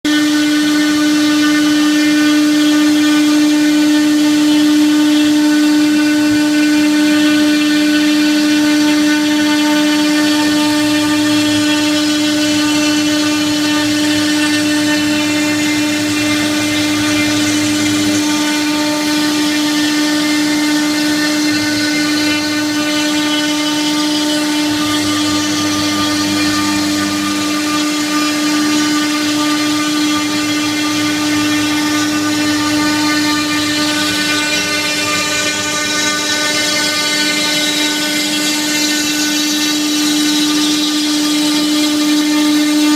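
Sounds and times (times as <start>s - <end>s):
router spindle whine: 0.0s - 42.9s
low rumble of cutting: 5.2s - 42.8s.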